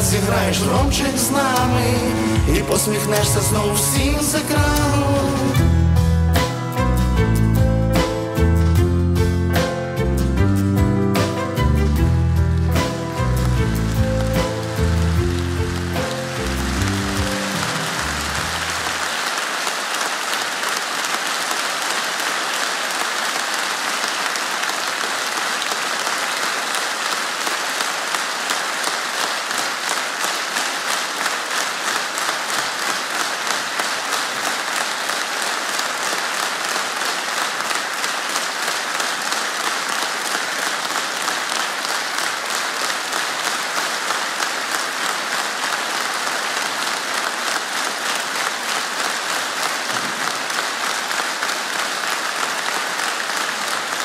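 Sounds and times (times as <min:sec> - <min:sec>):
audience applauding: 0:00.0 - 0:05.8, 0:11.2 - 0:54.0
rhythmic clapping in unison: 0:00.0 - 0:54.0.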